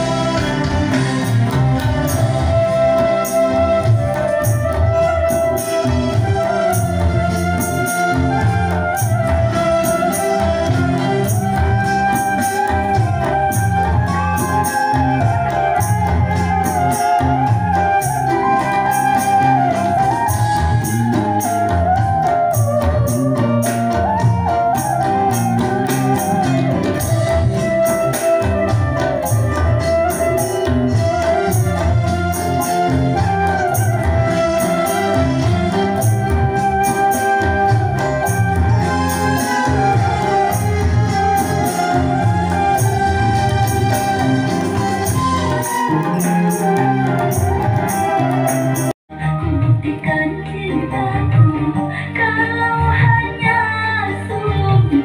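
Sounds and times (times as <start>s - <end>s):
hand drums beating: 0.0s - 48.9s
flute melody: 0.0s - 50.4s
bass guitar line: 0.0s - 55.0s
electric guitars: 0.0s - 55.0s.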